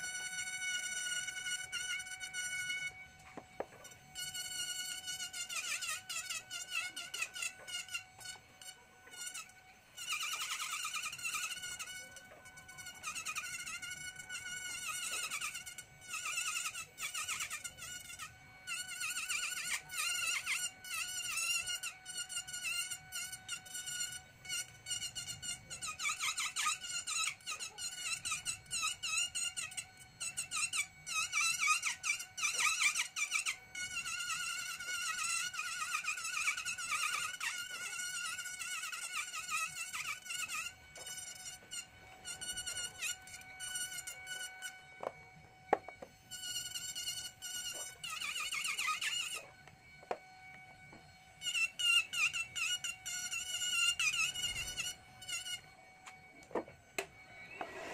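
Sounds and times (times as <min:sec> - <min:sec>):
rotary tool whining on wood: 0:00.0 - 0:57.9.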